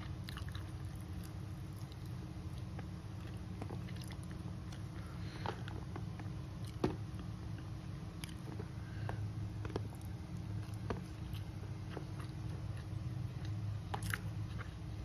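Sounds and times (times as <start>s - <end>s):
chewing with wet smacks: 0.0s - 15.0s.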